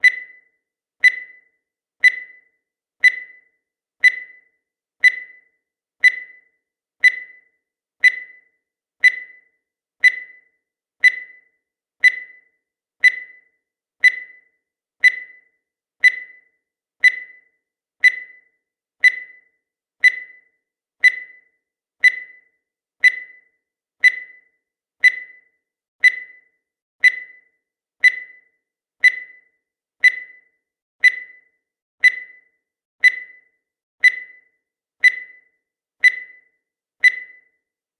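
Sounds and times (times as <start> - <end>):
countdown timer ticking: 0.0 - 37.6.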